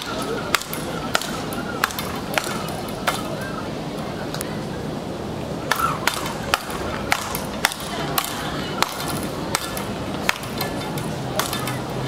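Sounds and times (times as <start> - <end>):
rackets whacking ball: 0.0 - 3.5, 5.7 - 12.0.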